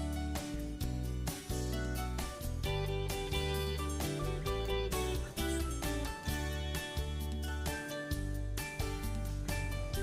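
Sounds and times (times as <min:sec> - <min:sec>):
upbeat guitar and bass music: 0:00.0 - 0:10.0.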